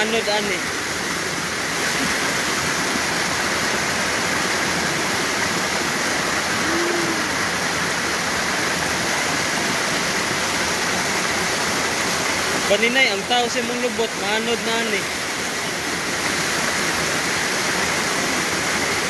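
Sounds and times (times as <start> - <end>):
floodwater rushing down a creek: 0.0 - 19.0
heavy rain falling: 0.0 - 19.0.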